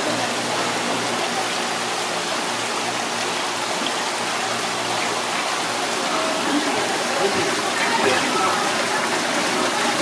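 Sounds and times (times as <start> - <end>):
water rushing in fish tanks: 0.0 - 10.0.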